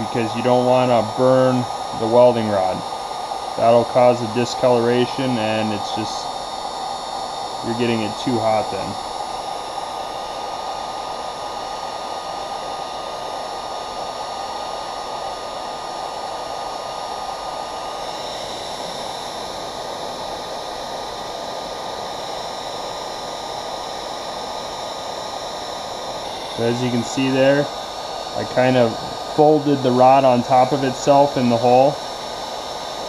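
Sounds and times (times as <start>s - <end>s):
faint steady whine: 0.0s - 33.0s
heat gun blowing hot air: 0.0s - 33.0s.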